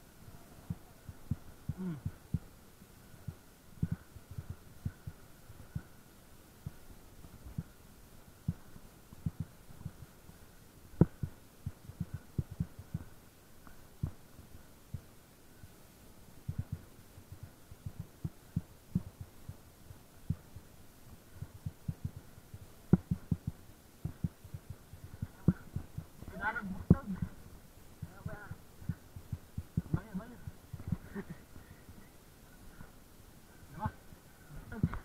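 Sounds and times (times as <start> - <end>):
faint high hum: 0.0 - 35.0.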